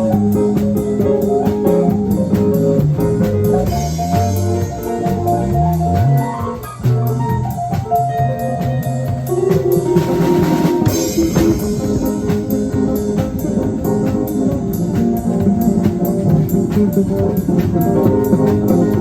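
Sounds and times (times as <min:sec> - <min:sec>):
drums playing: 0:00.0 - 0:19.0
held guitar notes: 0:00.0 - 0:19.0
low sliding bass notes: 0:00.0 - 0:19.0.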